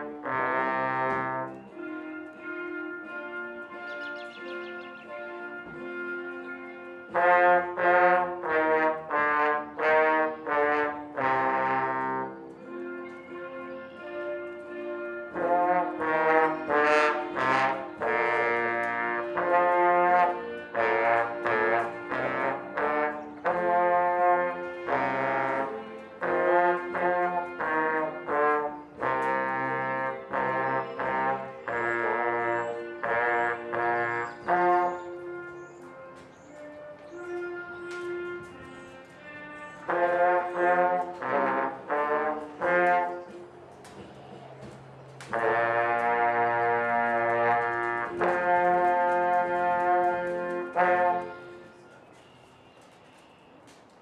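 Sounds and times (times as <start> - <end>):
trombone playing a tune: 0.0 - 52.0.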